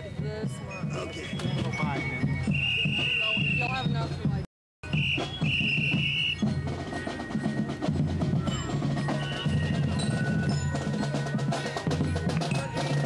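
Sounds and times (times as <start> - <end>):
marching drums: 0.0 - 13.0.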